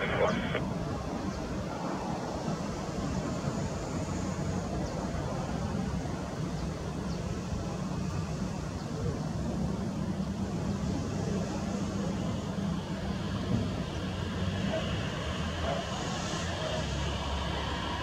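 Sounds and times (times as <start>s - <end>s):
jet engines low drone: 0.0s - 18.0s.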